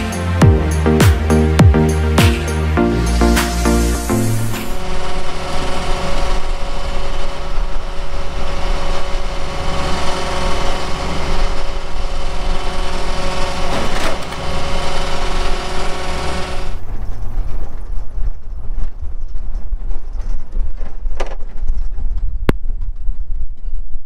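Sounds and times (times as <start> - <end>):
low rumble: 0.0 - 12.6, 16.6 - 24.0
combine engine droning: 0.0 - 20.7.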